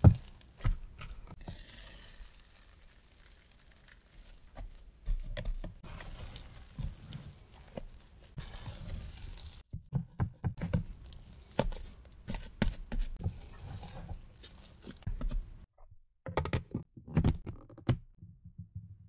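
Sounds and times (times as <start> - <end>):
dough squelching and slapping: 0.0 - 15.7.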